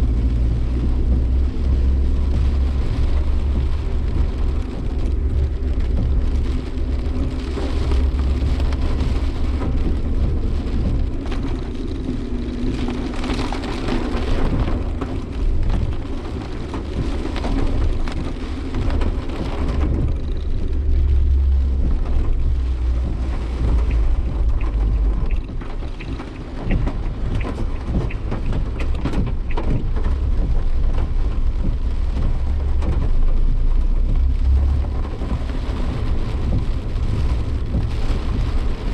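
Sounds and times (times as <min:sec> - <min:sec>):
engine and road noise rumble: 0:00.0 - 0:38.9
heavy rain beating on car: 0:00.0 - 0:38.9.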